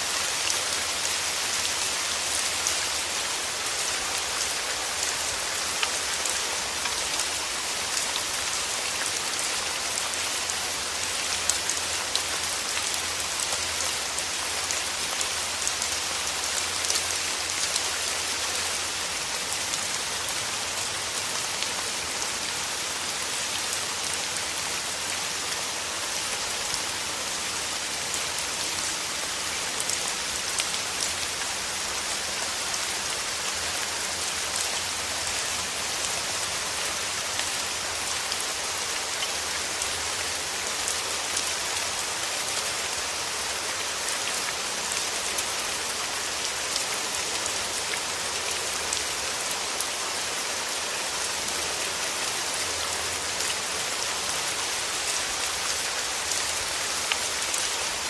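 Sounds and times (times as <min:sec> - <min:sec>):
rain falling on petals: 0:00.0 - 0:58.0.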